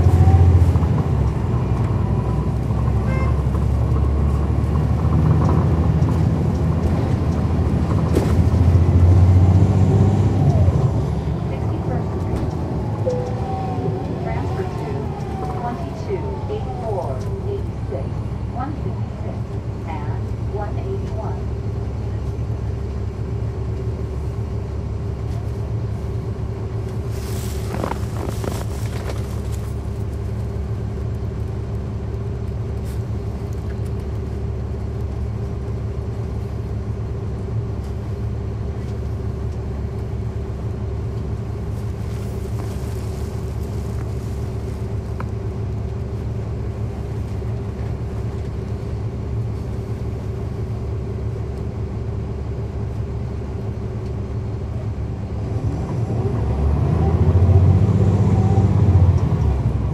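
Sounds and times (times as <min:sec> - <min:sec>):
bus engine low rumble: 0:00.0 - 0:59.9.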